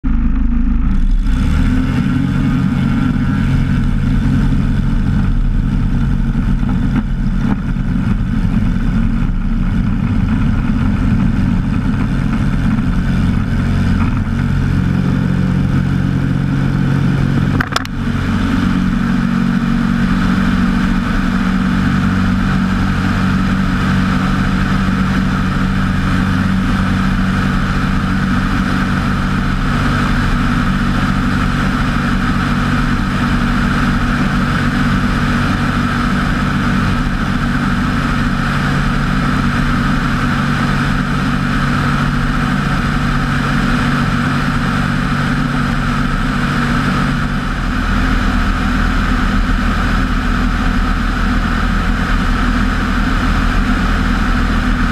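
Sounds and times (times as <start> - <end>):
light aircraft engine and propeller: 0.0 - 54.9.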